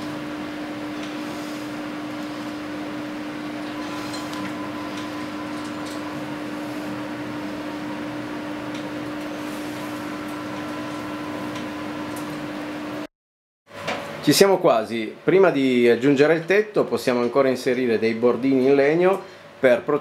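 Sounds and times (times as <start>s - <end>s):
fan-like hum: 0.0s - 13.1s, 13.7s - 20.0s.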